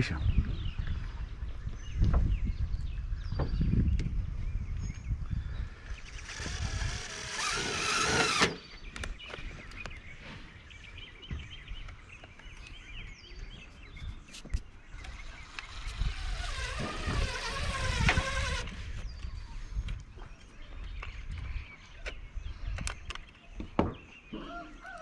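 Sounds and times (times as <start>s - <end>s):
wind rumble on microphone: 0.0s - 24.0s
birdsong chirps: 0.0s - 25.0s.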